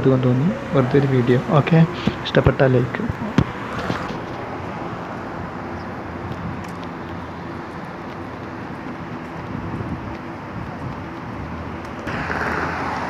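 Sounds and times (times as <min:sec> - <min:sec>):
low vehicle hum: 0:00.0 - 0:13.0
road traffic rushing: 0:00.0 - 0:13.0.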